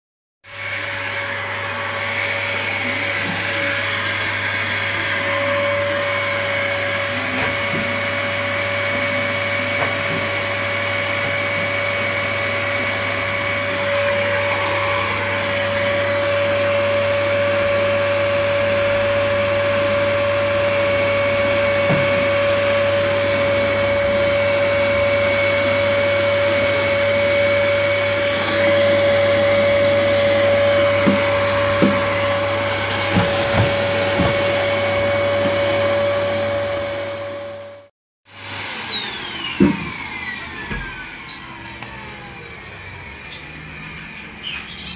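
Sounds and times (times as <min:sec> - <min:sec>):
vacuum cleaner running: 0:00.5 - 0:44.9.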